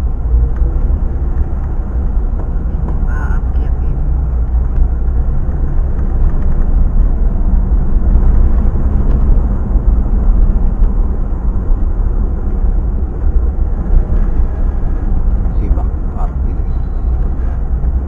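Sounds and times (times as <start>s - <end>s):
moving vehicle rumble: 0.0s - 18.0s
wind buffeting microphone: 0.0s - 18.0s.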